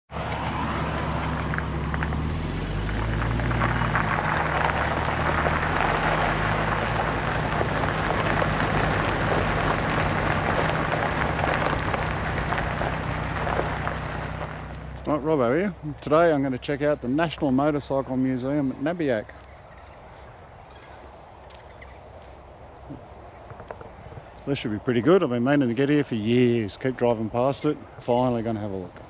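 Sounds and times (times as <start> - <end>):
steady rushing noise: 0.1 - 27.4
vehicle engine running: 0.1 - 29.0.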